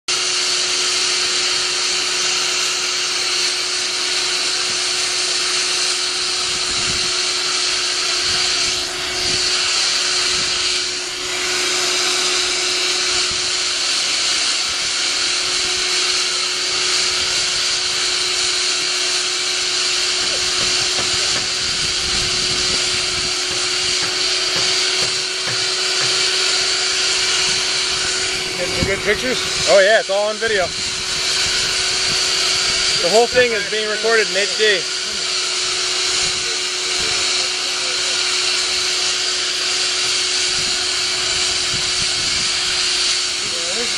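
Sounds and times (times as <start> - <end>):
shop vac running: 0.1 - 43.9.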